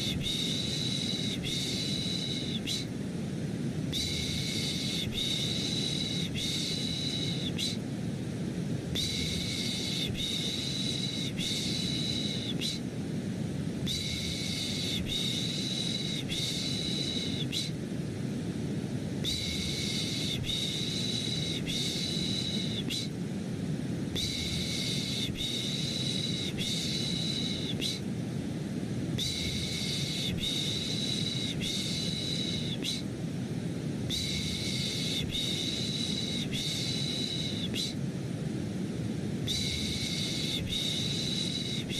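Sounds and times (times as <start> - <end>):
white noise rush: 0.0 - 41.9.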